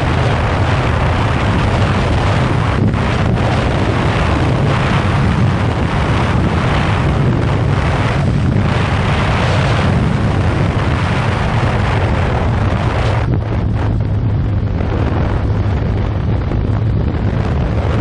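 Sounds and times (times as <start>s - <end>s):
motorcycle engine drone: 0.0s - 18.0s
wind buffeting microphone: 0.0s - 18.0s.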